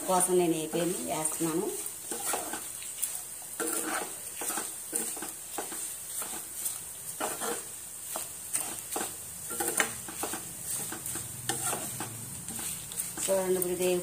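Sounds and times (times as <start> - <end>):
leaves sizzling in oil: 0.0 - 14.0
steel spoon scraping a pan: 0.0 - 14.0.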